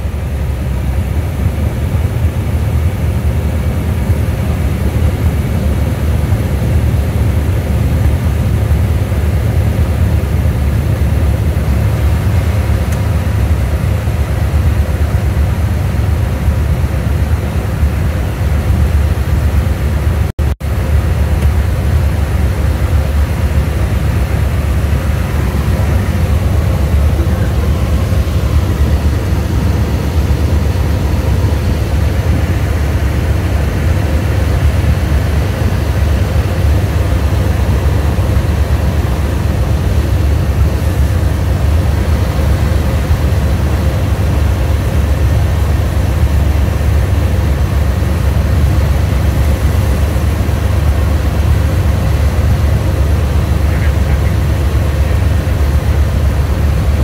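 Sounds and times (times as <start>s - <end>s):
propeller airplane engine drone: 0.0s - 57.0s.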